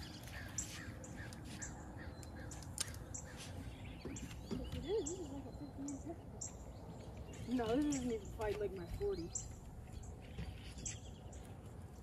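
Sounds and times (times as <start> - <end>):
birds chirping and calling: 0.0 - 11.8.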